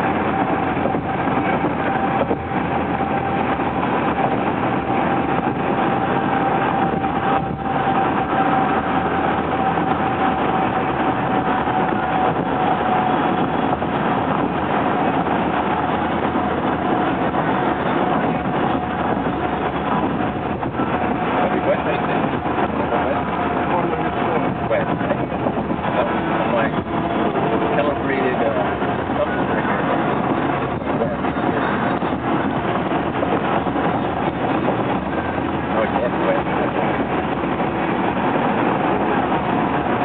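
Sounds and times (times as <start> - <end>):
thin steady whine: 0.0 - 40.0
tyre and wind road noise: 0.0 - 40.0.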